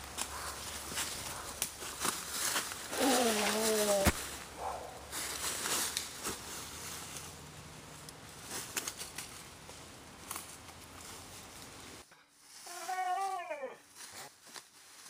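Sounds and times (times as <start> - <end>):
footsteps through dry leaves: 0.0 - 15.0.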